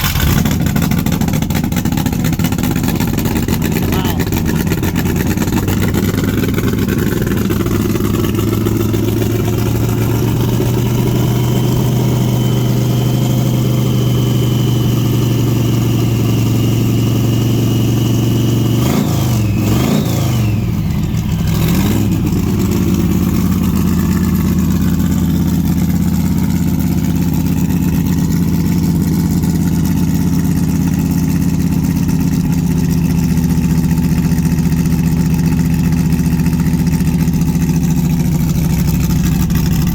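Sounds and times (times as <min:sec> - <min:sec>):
car engine idling: 0:00.0 - 0:18.8, 0:20.4 - 0:39.9
engine throttle blips: 0:00.0 - 0:39.9.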